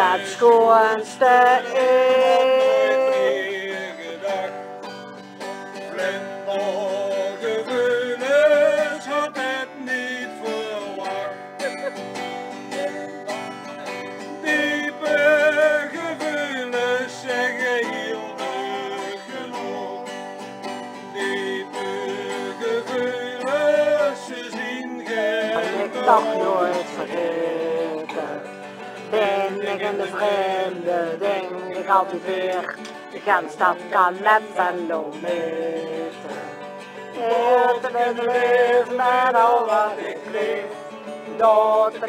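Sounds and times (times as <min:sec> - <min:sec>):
man singing with vibrato: 0:00.0 - 0:04.7, 0:05.9 - 0:13.3, 0:14.1 - 0:20.2, 0:21.1 - 0:42.0
acoustic guitar strumming: 0:00.0 - 0:42.0.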